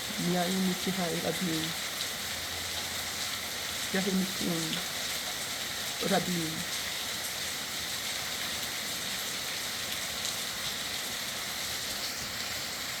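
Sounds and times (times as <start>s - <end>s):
steady hiss with faint crackle: 0.0s - 13.0s.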